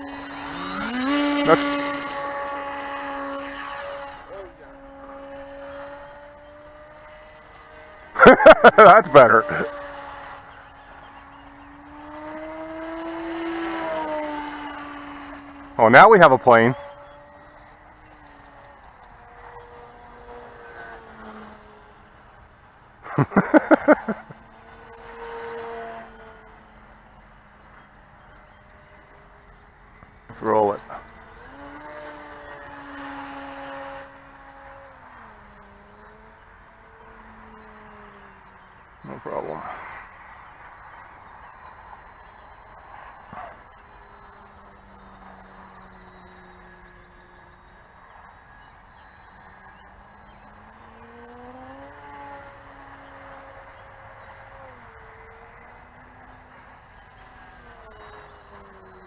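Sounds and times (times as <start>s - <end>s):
model plane motor whine: 0.0s - 59.0s.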